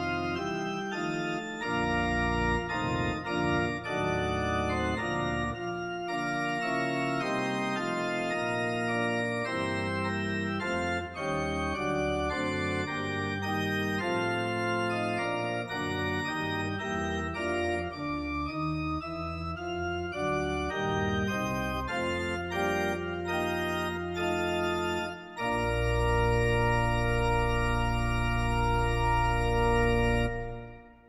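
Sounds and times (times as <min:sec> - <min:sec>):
organ playing chords: 0:00.0 - 0:31.0.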